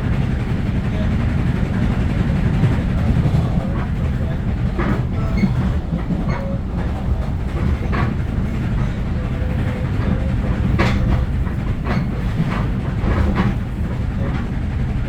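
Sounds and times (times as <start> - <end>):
train rumbling along track: 0.0 - 15.0
train wheels clacking: 0.0 - 15.0.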